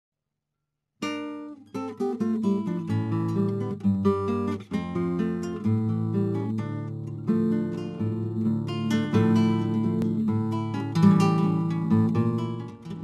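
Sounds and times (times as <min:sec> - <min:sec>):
acoustic guitar music: 0:01.0 - 0:13.0.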